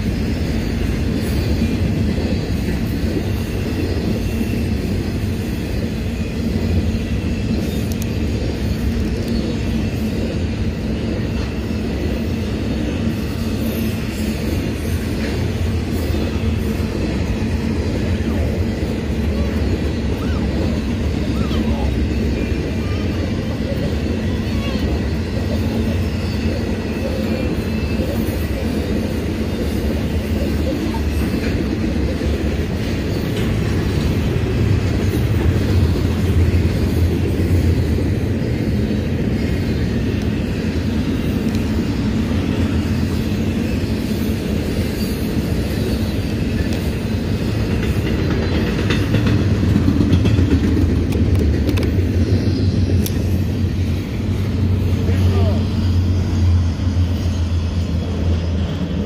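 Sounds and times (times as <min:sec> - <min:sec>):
freight train cars rolling past: 0:00.0 - 0:59.0.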